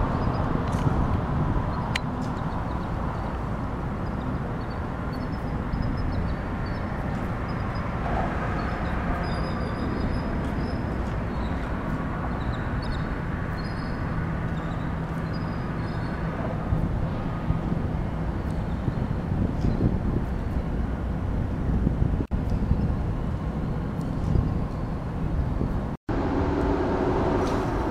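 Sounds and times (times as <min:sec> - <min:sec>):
low outdoor rumble: 0:00.0 - 0:27.9.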